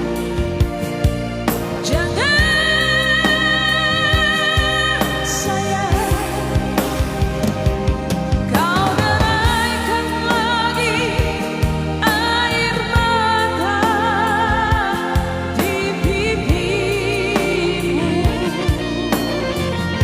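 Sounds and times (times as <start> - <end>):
band with steady beat: 0.0 - 20.0
person singing with vibrato: 1.7 - 7.2, 8.5 - 20.0.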